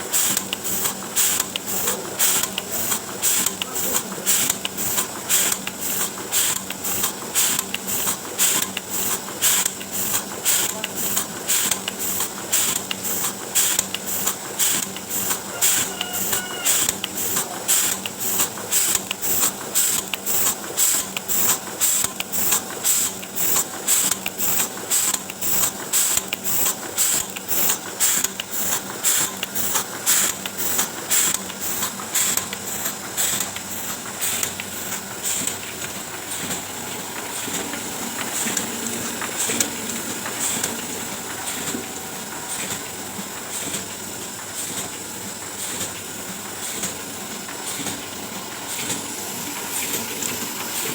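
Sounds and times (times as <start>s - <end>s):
printing press clacking: 0.0s - 50.9s
printing press running hiss: 0.0s - 50.9s.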